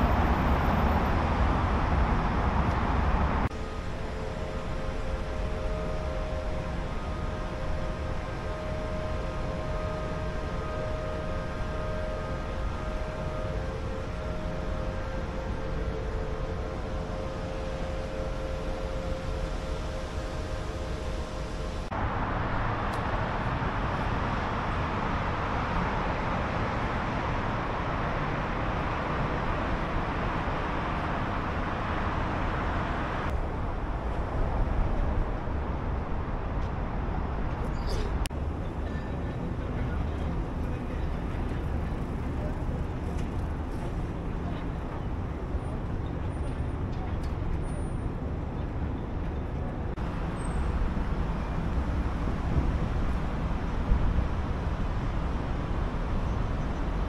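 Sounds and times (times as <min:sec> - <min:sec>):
vehicle running rumble and hiss: 0:00.0 - 0:57.0.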